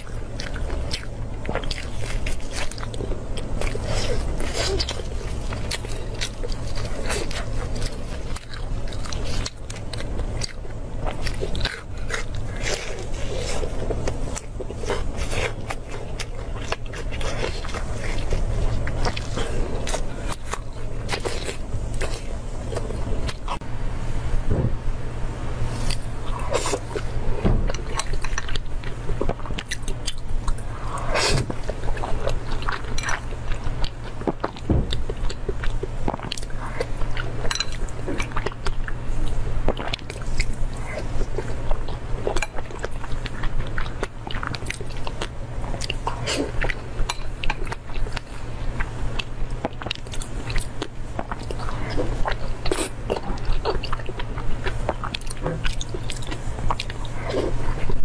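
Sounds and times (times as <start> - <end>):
chewing and wet mouth sounds: 0.0 - 23.6, 25.6 - 58.0
low steady hum: 0.0 - 58.0.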